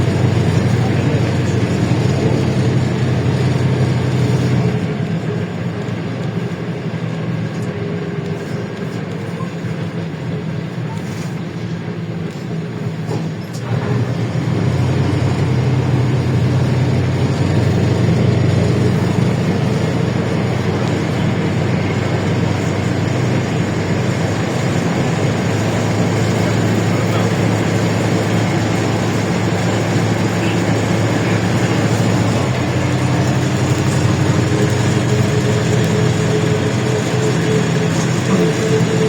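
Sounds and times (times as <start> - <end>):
bus engine running: 0.0 - 39.0
road and body noise: 0.0 - 39.0.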